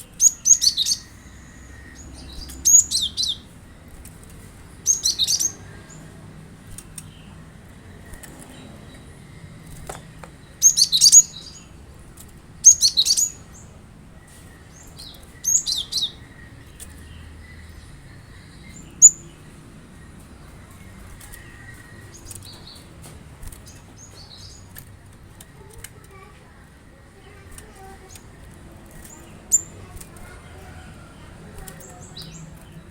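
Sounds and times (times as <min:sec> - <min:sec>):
bird chirping: 0:00.0 - 0:32.9.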